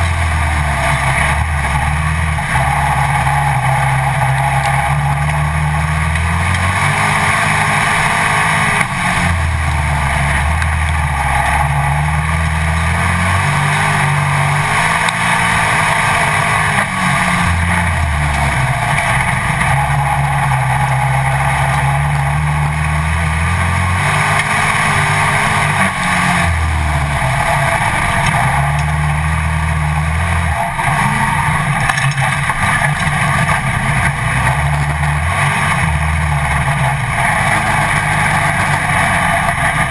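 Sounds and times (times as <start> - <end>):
race car engine: 0.0 - 39.9.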